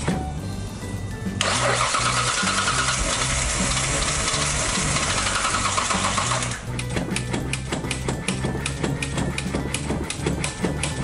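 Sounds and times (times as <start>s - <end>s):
starter motor cranking engine: 1.4s - 10.6s.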